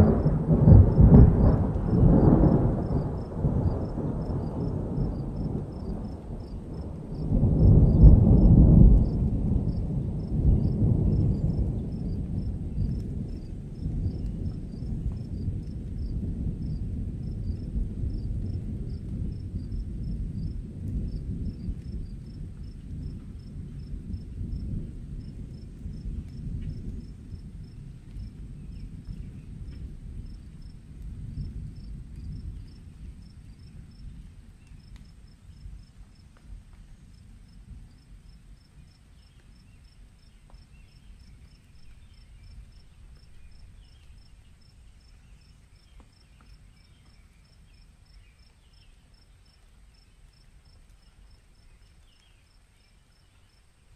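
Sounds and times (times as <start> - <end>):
rolling thunder rumble: 0.0 - 48.7
faint crickets chirping: 0.0 - 53.9.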